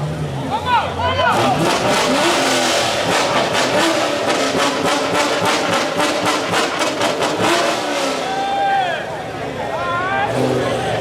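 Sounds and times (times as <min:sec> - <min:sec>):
car engine at high revs: 0:01.2 - 0:11.0.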